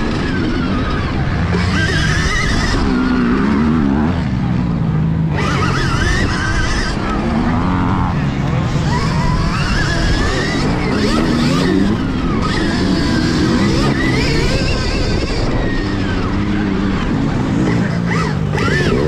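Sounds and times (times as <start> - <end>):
electric motor whining: 0.0 - 4.3, 5.3 - 19.0.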